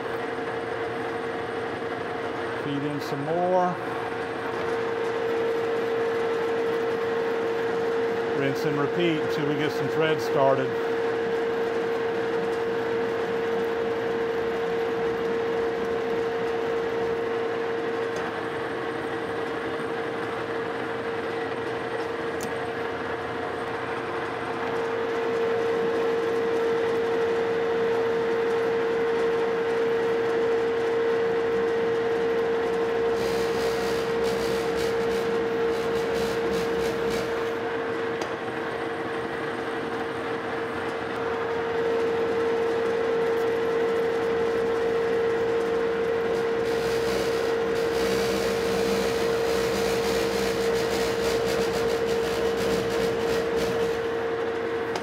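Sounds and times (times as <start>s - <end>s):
metal lathe humming: 0.0s - 55.0s.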